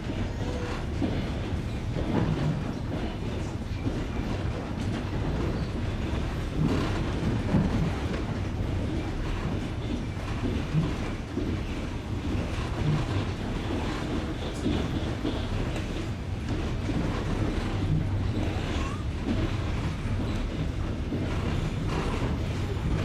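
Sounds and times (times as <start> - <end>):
train wheels clacking over rail joints: 0.0 - 23.0.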